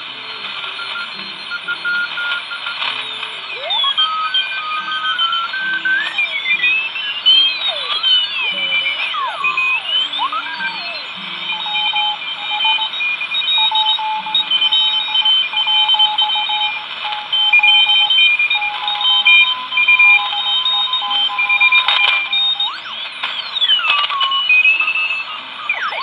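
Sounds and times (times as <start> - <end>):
descending radio whistle: 0.0 - 26.0
morse code beeping tones: 0.0 - 26.0
radio band hiss: 0.0 - 26.0.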